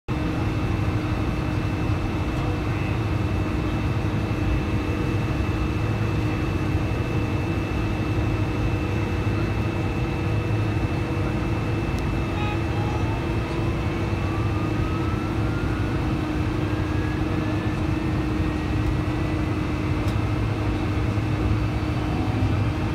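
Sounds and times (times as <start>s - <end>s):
airplane cabin engine drone: 0.1s - 22.9s.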